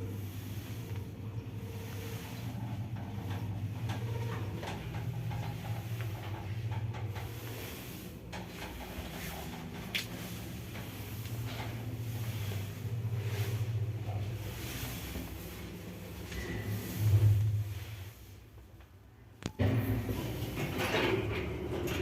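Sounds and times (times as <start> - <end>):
elevator humming: 0.0 - 22.0.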